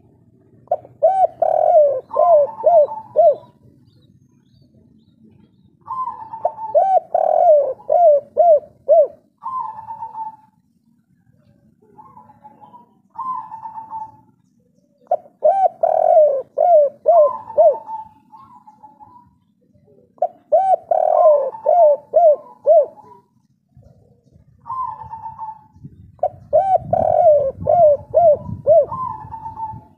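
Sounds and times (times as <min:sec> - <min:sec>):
dove cooing: 0:00.0 - 0:03.9, 0:05.8 - 0:10.6, 0:11.4 - 0:14.4, 0:15.0 - 0:29.9.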